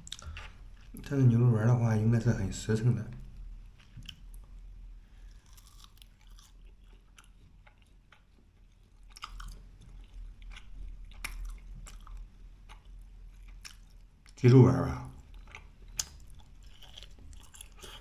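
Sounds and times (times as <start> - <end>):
person chewing: 0.0 - 1.0, 3.4 - 14.4, 15.1 - 18.0.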